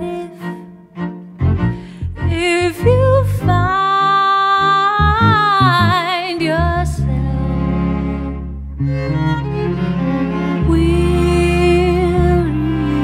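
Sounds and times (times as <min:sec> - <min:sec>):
string ensemble music: 0:00.0 - 0:13.0.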